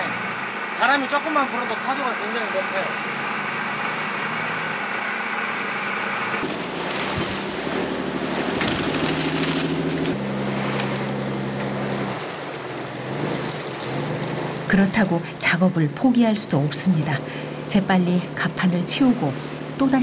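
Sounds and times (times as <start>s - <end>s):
boat engine humming: 0.0s - 20.0s
waves splashing: 0.0s - 20.0s
wind: 0.0s - 20.0s.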